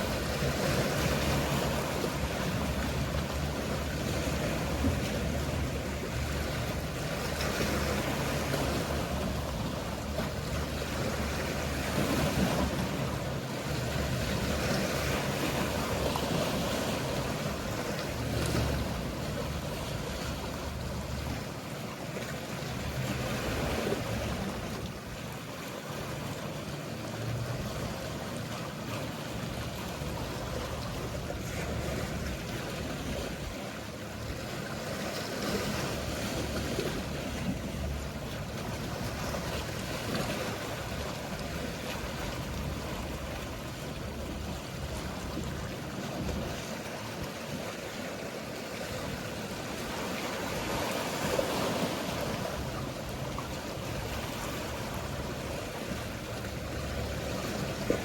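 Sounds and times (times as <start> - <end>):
boat engines humming: 0.0 - 58.0
sea waves washing in: 0.0 - 58.0.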